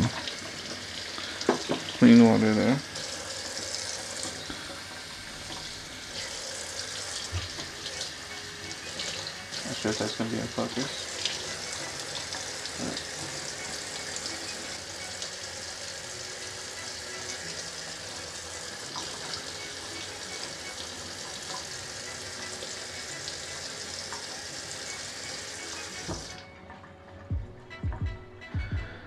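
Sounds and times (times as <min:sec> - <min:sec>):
faucet water splashing into sink: 0:00.0 - 0:15.4, 0:18.2 - 0:26.4.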